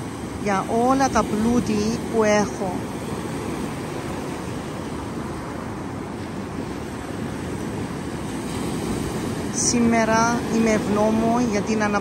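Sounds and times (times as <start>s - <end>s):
sea surf breaking on shore: 0.0s - 12.0s.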